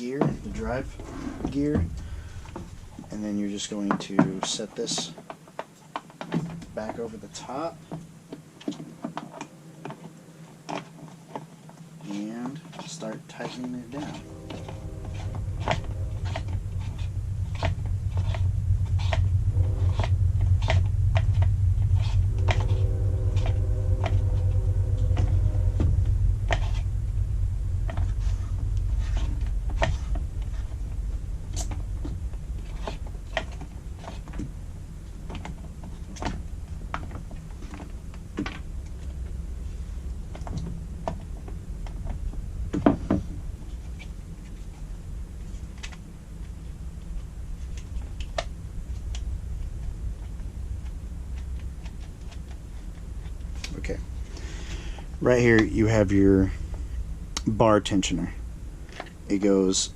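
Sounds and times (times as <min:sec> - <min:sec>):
low rumble: 0:00.0 - 0:04.8, 0:06.4 - 0:12.7, 0:13.4 - 0:59.9.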